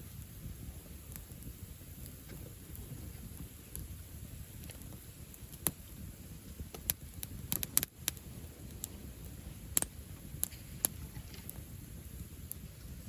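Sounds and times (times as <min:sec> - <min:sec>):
campfire crackling: 0:00.0 - 0:13.0
low steady rumble: 0:00.0 - 0:13.0.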